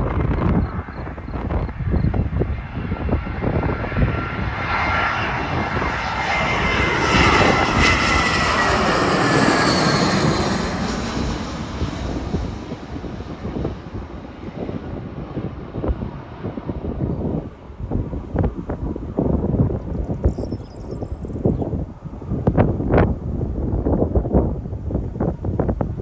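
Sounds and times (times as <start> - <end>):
aircraft engine passing by: 0.0 - 26.0
wind buffeting microphone: 0.0 - 26.0.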